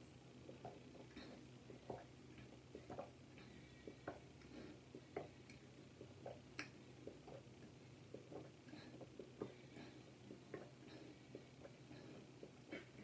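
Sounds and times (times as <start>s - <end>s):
faint low hum: 0.0s - 13.0s
swallowing gulps: 0.4s - 13.0s.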